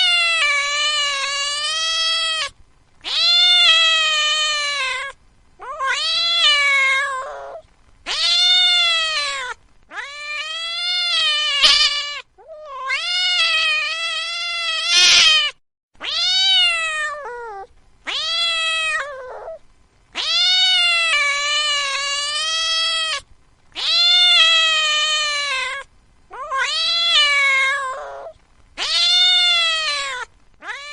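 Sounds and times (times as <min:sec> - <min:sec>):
cat meowing: 0:00.0 - 0:19.6, 0:20.2 - 0:30.9.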